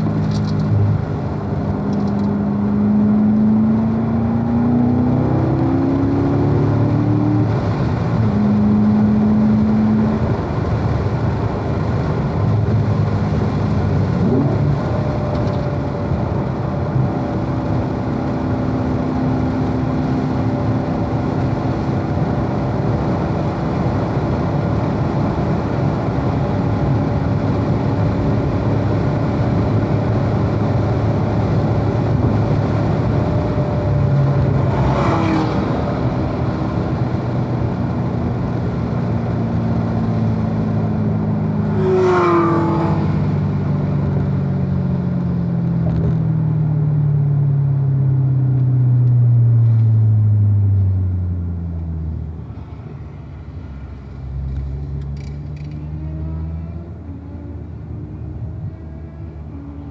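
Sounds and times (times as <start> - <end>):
car engine under way: 0.0 - 59.9
wind and road noise: 0.0 - 59.9.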